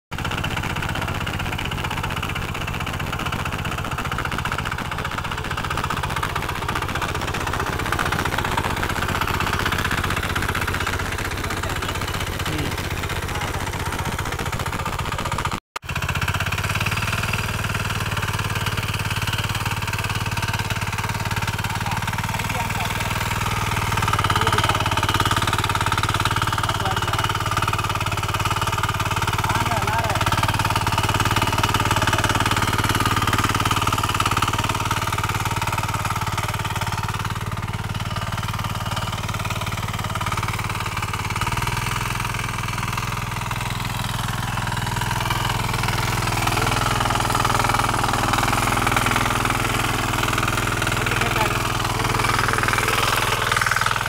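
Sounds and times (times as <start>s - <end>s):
small diesel engine running: 0.1s - 54.0s
tines churning soil: 0.1s - 54.0s.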